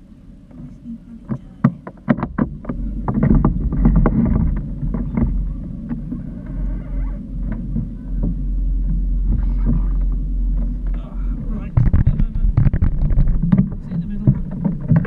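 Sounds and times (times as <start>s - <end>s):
boat engine low rumble: 0.0s - 15.0s
knocks and clunks: 0.5s - 15.0s.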